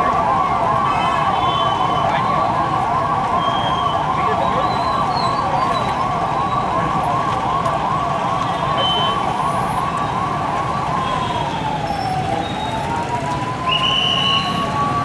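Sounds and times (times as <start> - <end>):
police siren: 0.0 - 15.0.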